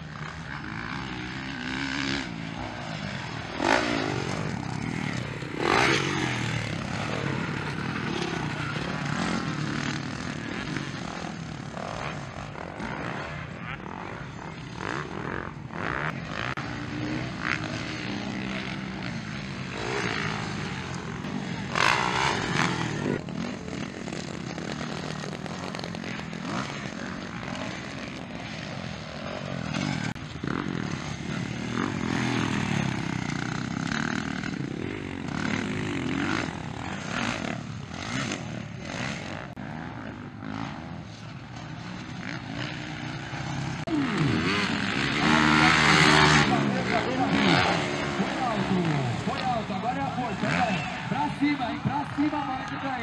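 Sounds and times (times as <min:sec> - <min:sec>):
dirt bike engines racing: 0:00.0 - 0:53.0.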